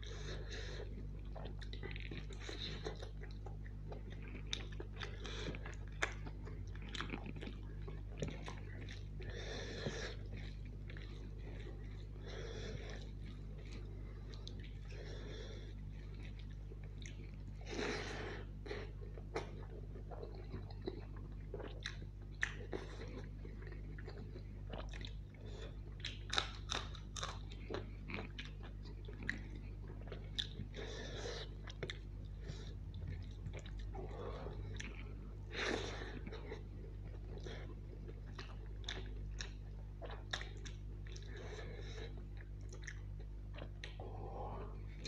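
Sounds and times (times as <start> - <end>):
person chewing with wet mouth sounds: 0.0 - 45.0
steady low hum: 0.0 - 45.0.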